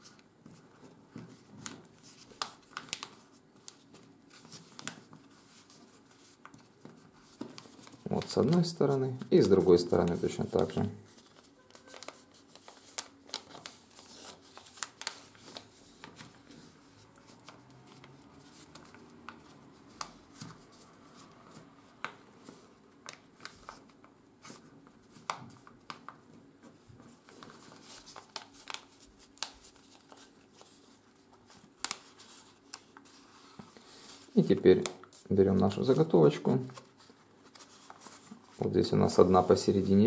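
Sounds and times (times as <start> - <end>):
paper crinkling: 0.0 - 40.0.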